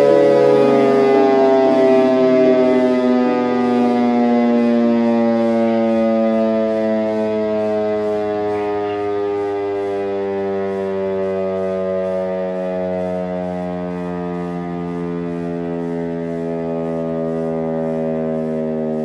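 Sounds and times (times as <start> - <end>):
motor siren wailing: 0.0 - 19.0.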